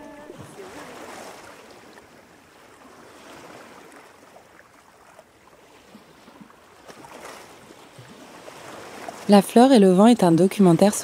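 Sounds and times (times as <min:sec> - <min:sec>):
water gently lapping: 0:00.0 - 0:11.0.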